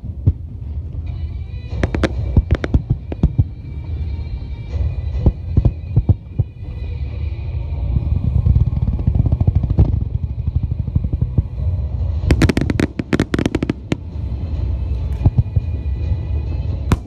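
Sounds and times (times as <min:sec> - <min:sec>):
fireworks sharp cracks: 0:00.0 - 0:07.2, 0:08.2 - 0:16.1, 0:16.8 - 0:17.0
fireworks bursting rumble: 0:00.0 - 0:17.0.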